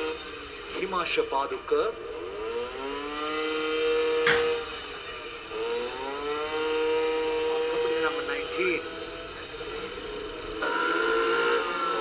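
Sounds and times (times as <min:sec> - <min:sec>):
two-stroke engines revving: 0:00.0 - 0:12.0.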